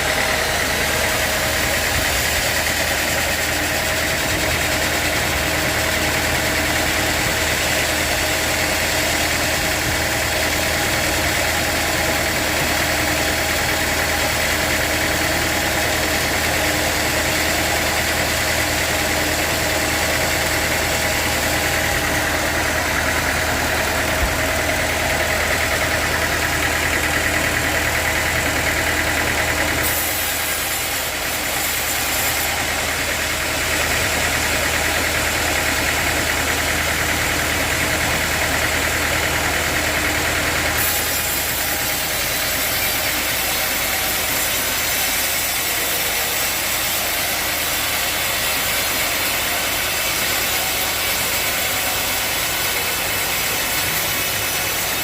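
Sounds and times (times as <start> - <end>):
engine drone: 0.0 - 55.0.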